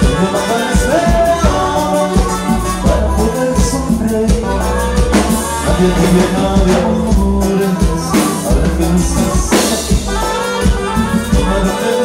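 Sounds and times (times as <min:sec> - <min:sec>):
band playing dance music: 0:00.0 - 0:12.0.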